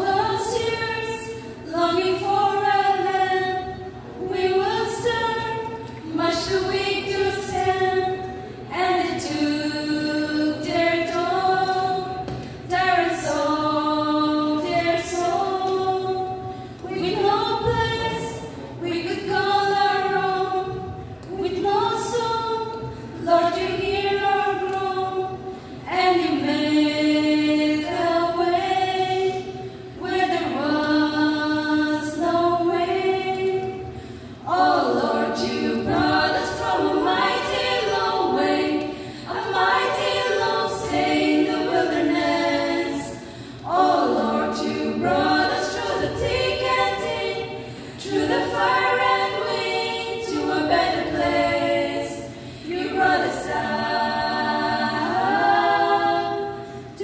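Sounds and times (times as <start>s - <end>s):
women singing gospel a cappella: 0.0s - 57.0s.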